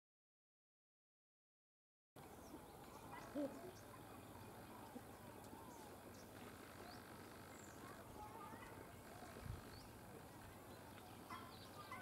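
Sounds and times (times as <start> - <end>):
faint bird chirps: 2.2 - 12.0.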